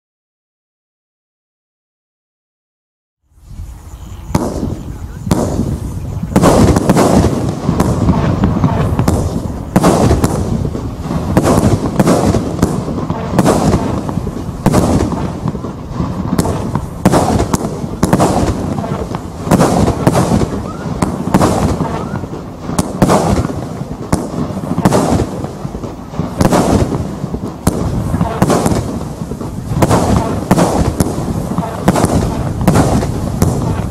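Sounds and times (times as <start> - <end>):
continuous firework din: 3.3 - 33.9
firework bangs: 4.0 - 33.9.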